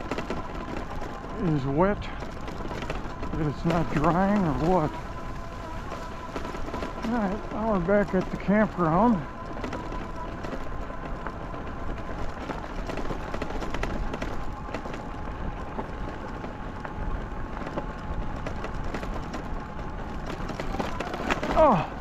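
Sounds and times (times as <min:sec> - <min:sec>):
faint motor whine: 0:00.0 - 0:22.0
small clicks and rattles: 0:00.0 - 0:22.0
tyre noise: 0:00.0 - 0:22.0.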